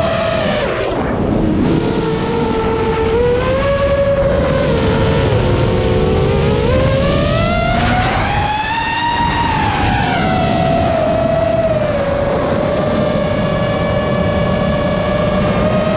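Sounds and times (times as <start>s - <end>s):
drone motors whining: 0.0s - 15.9s.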